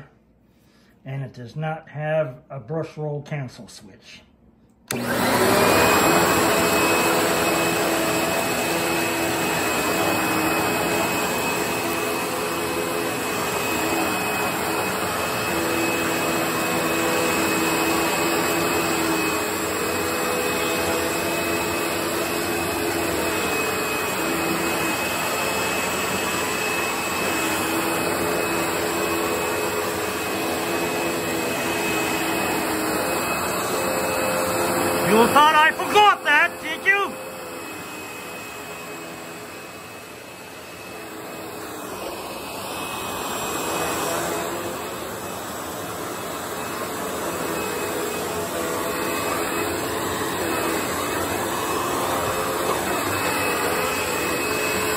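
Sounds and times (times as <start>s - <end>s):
vacuum brushroll on hard floor: 4.9s - 36.6s, 37.2s - 54.9s
vacuum cleaner motor whine: 4.9s - 54.9s.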